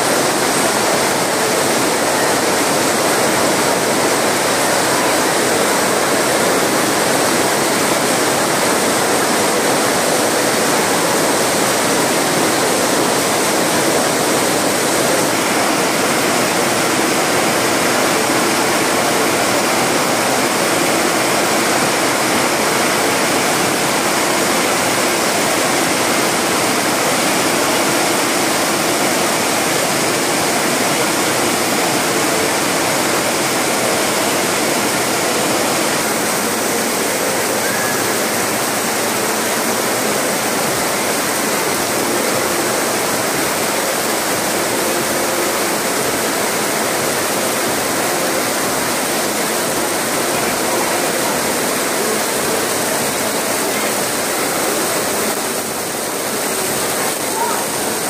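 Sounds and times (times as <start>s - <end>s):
heavy rain on flooded paving: 0.0s - 58.0s.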